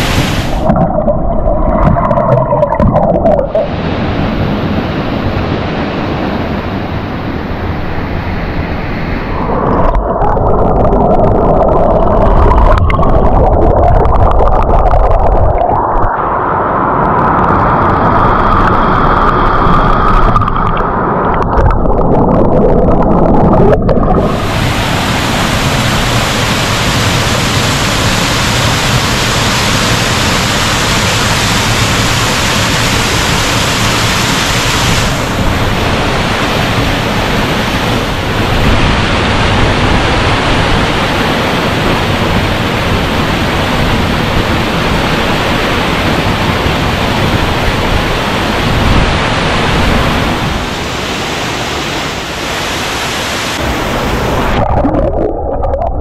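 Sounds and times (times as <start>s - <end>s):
waterfall roaring: 0.0s - 1.0s, 1.6s - 55.1s
muffled underwater water rush: 0.0s - 56.0s.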